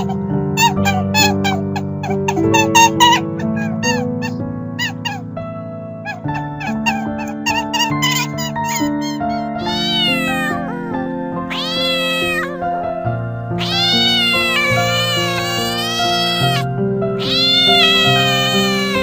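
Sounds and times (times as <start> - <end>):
cat meowing: 0.0 - 5.3, 6.0 - 19.0
background music: 0.0 - 19.0.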